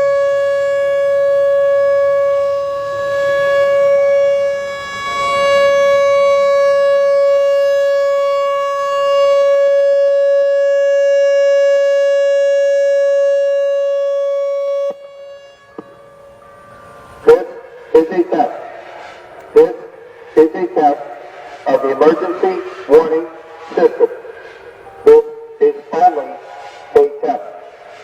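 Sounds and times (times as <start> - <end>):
rotating electronic warning siren: 0.0 - 28.0.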